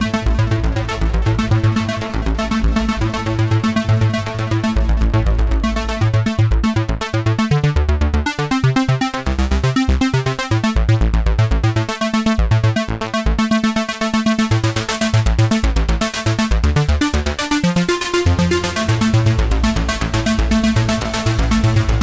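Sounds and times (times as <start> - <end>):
pulsing synth bass notes: 0.0 - 22.0.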